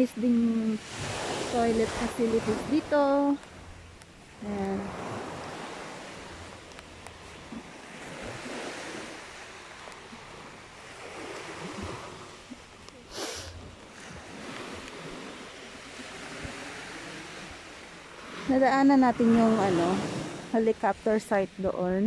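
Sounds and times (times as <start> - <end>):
small waves breaking on beach: 0.0 - 22.0.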